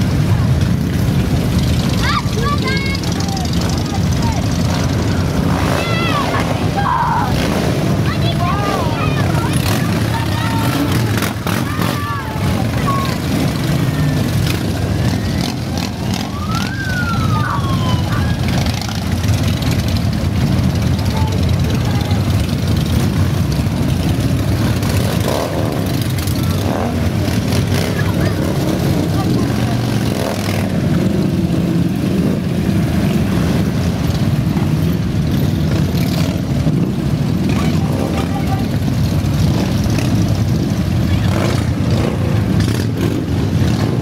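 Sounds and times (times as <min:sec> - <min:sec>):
motorcycles rumbling past: 0:00.0 - 0:44.0.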